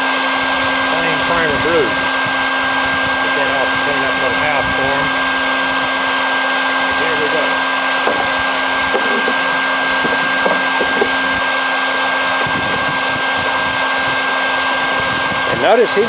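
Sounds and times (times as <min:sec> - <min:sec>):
shop vacuum running: 0:00.0 - 0:16.0.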